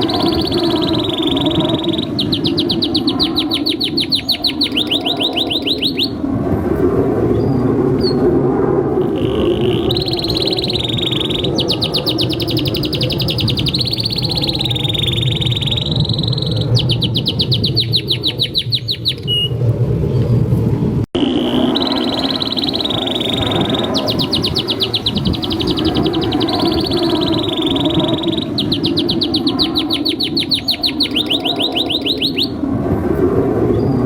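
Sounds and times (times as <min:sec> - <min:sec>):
canary singing trills: 0:00.0 - 0:06.2, 0:09.0 - 0:19.6, 0:21.2 - 0:32.6.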